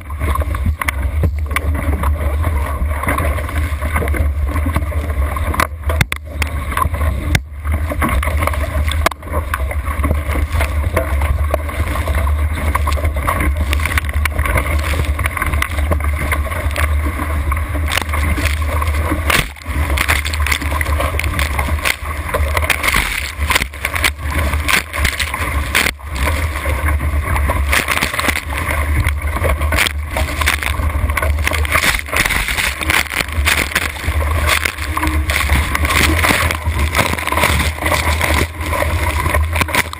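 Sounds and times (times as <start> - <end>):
water splashing against hull: 0.0 - 39.9
wind rumble on microphone: 0.0 - 39.9.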